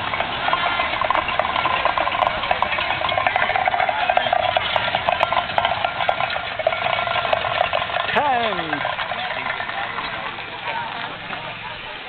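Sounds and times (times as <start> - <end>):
golf cart engine running: 0.0 - 12.0
tin cans clattering on asphalt: 0.0 - 12.0.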